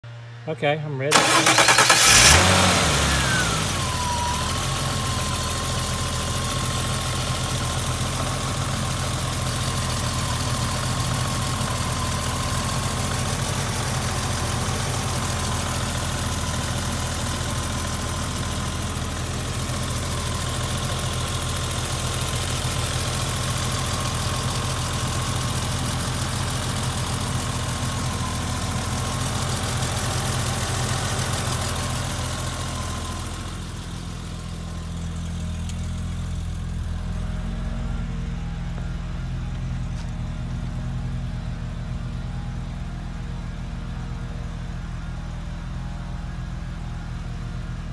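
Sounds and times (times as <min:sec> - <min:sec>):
car engine idling: 0:00.1 - 0:47.9.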